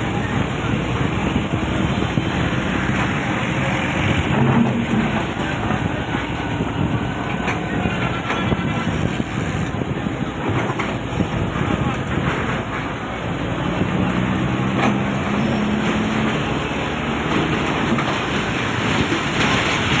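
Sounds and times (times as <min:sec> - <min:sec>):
excavator diesel engine: 0:00.0 - 0:20.0
hydraulics working: 0:00.0 - 0:20.0.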